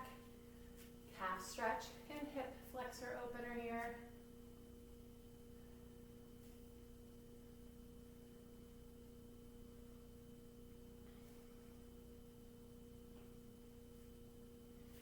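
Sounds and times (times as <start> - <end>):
faint hum of pure tones: 0.0 - 15.0.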